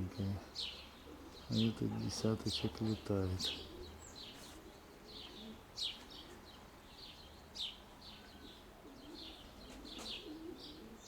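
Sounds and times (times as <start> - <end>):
pigeons cooing: 0.0 - 6.5, 8.3 - 11.0
small birds chirping: 0.0 - 11.0.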